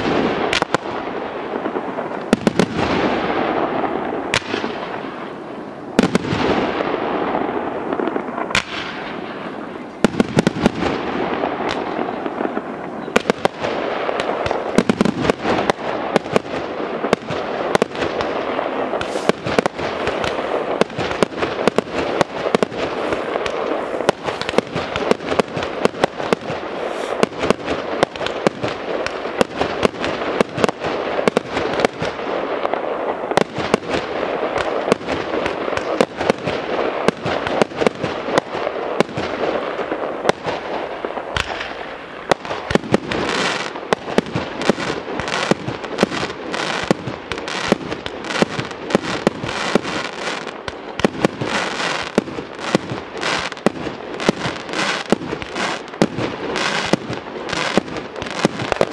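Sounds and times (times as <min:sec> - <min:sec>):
fireworks bangs and crackles: 0:00.0 - 0:58.9
steady rushing hiss: 0:00.0 - 0:58.9.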